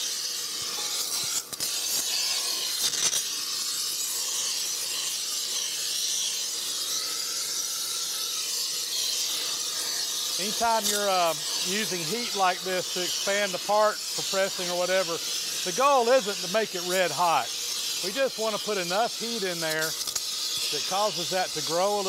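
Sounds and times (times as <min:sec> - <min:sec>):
gas torch flame hissing: 0:00.0 - 0:22.0.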